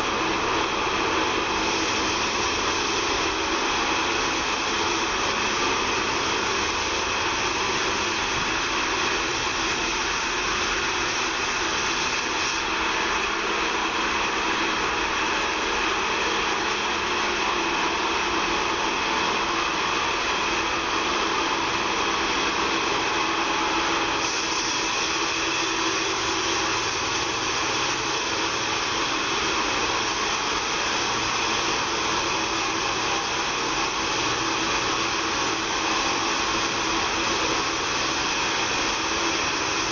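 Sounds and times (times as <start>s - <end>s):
band sawmill whine and hiss: 0.0s - 39.9s.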